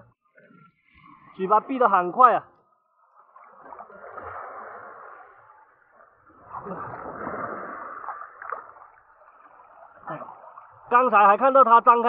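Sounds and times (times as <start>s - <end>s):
shallow water splashing: 0.3s - 12.0s.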